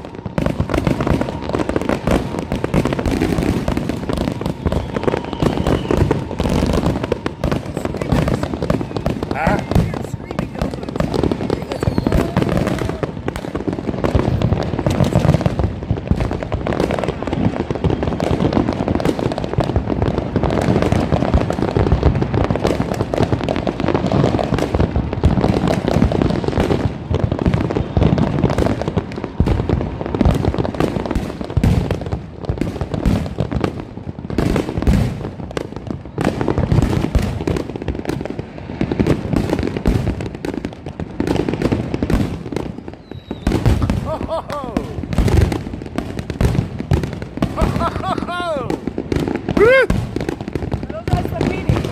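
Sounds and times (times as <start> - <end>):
fireworks and firecrackers banging: 0.0 - 51.9.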